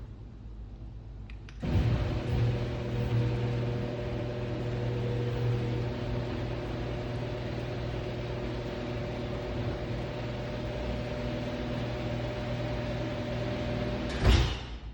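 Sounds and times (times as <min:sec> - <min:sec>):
garage door opener motor: 0:01.6 - 0:14.6.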